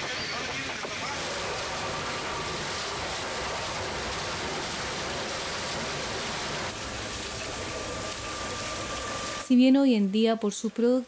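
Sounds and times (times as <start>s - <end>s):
low machine running noise: 0.0s - 11.0s
water spraying hiss: 0.5s - 9.5s.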